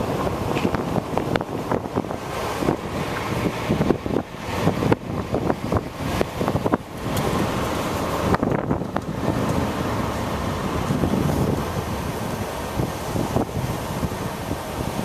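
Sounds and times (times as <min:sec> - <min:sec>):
car driving rumble: 0:00.0 - 0:15.0
wind buffeting microphone: 0:00.0 - 0:15.0.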